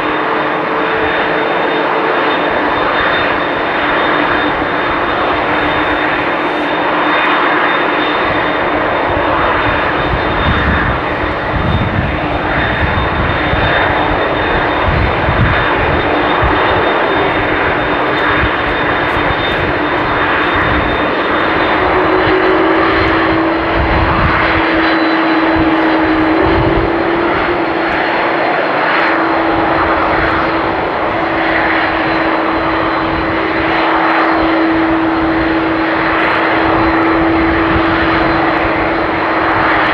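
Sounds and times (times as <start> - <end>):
jet engine whine: 0.0 - 39.9
jet engines roaring: 0.0 - 39.9.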